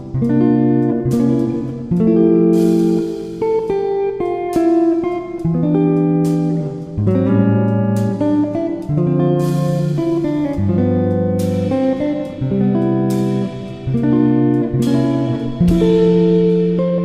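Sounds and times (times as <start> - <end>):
guitar background music: 0.0 - 17.0.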